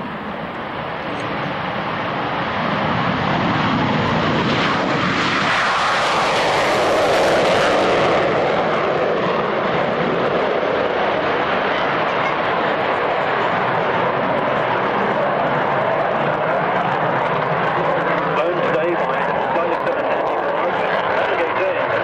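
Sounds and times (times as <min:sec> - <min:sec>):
jet engines at full afterburner: 0:00.0 - 0:22.0.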